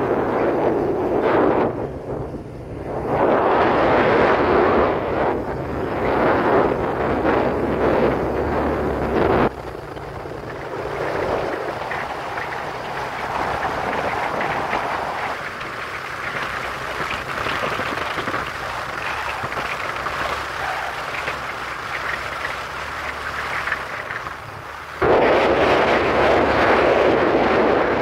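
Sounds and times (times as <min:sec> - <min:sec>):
motorcycle engine and tyre noise: 0:00.0 - 0:28.0
wind buffeting on microphone: 0:00.0 - 0:28.0.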